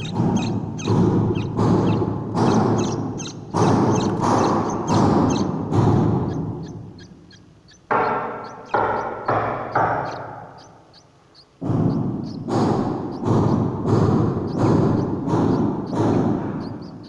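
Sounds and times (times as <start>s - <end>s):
high ticking beat: 0.0s - 17.0s.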